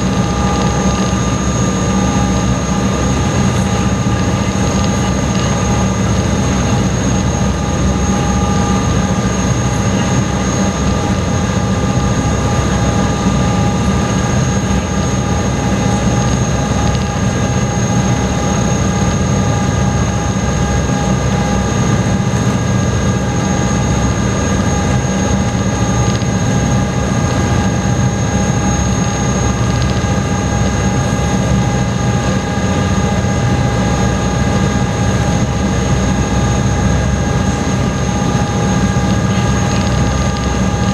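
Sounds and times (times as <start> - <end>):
steady whining tones: 0.0 - 40.9.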